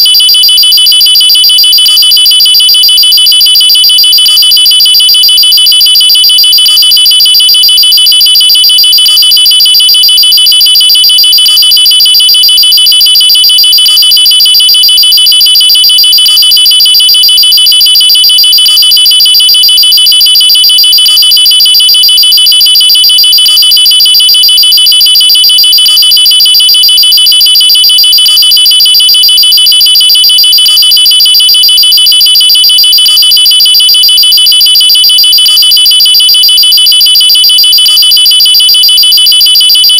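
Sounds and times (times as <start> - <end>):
high-pitched electronic alarm tone: 0.0 - 39.9.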